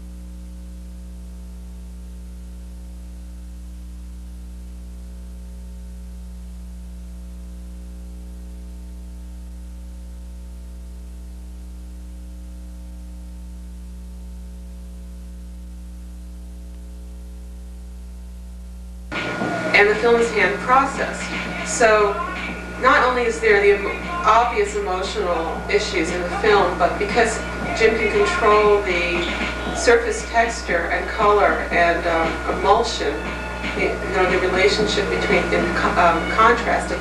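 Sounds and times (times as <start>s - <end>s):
electrical mains hum: 0.0s - 37.0s
tape hiss: 0.0s - 37.0s.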